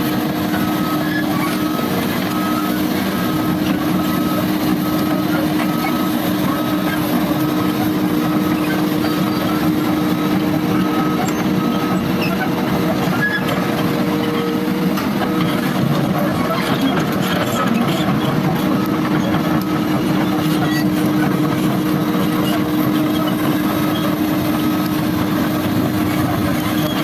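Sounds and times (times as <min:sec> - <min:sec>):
diesel engine running: 0:00.0 - 0:27.0
reversing alarm beeping: 0:00.0 - 0:27.0.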